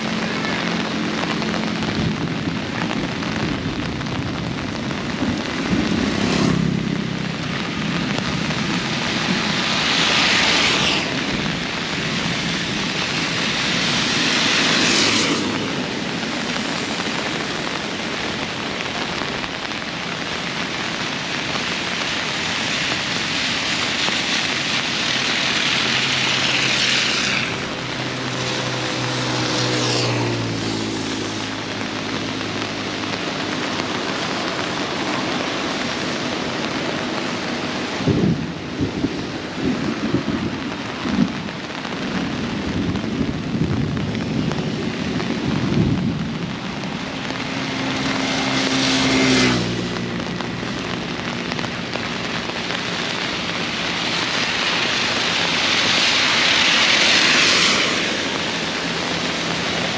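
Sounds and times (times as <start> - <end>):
heavy rain: 0.0 - 59.9
tyres hissing on wet road: 0.0 - 59.9
vehicle engine hum: 0.0 - 59.9.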